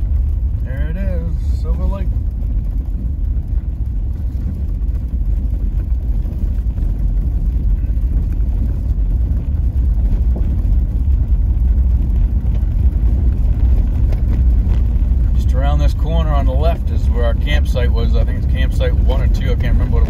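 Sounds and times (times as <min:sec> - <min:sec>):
vehicle engine and tyre rumble: 0:00.0 - 0:20.0.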